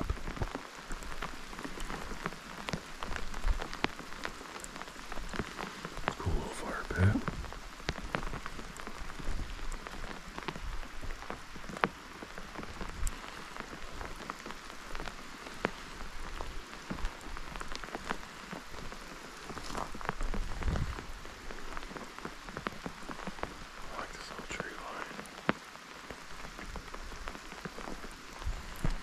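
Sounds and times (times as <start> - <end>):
rain falling: 0.0 - 29.0
raindrops ticking: 0.0 - 29.0.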